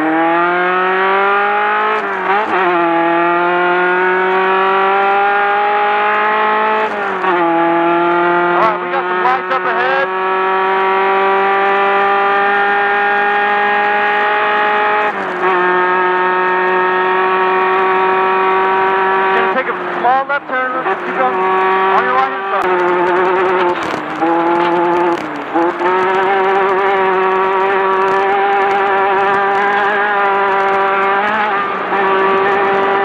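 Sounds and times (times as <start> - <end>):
buggy engine at full throttle: 0.0 - 33.0.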